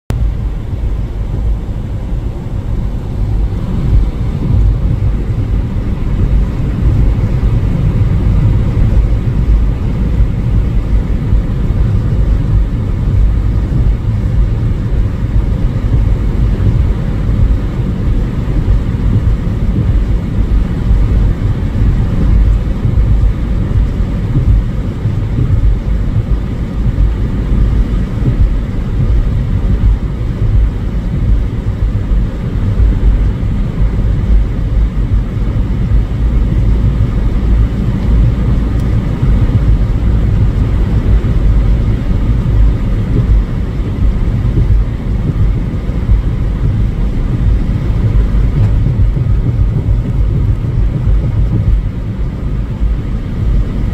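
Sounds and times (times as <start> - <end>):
storm wind buffeting microphone: 0.1 - 53.9.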